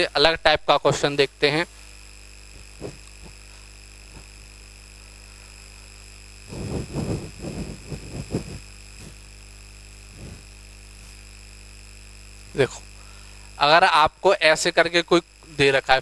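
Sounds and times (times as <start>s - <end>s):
electrical hum and whine: 0.0s - 16.0s.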